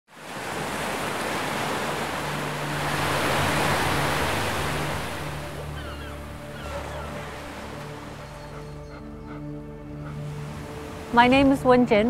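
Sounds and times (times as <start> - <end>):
waves breaking and washing in: 0.1 - 12.0.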